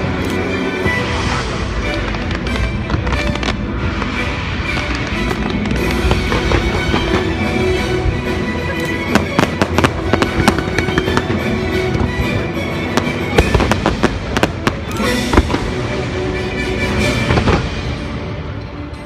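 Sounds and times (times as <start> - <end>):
fireworks bangs and crackle: 0.0 - 8.3, 8.9 - 18.6
orchestral music on loudspeakers: 0.0 - 19.0.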